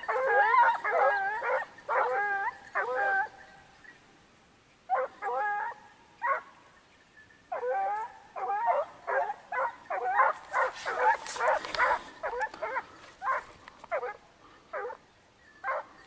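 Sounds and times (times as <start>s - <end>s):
dogs yelping barks: 0.0s - 4.0s, 4.9s - 6.6s, 7.5s - 16.0s.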